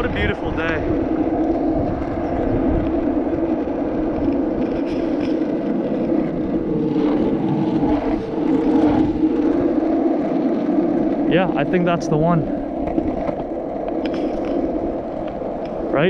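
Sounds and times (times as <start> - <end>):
wheels humming on asphalt: 0.0 - 16.0
wind on microphone: 0.0 - 16.0.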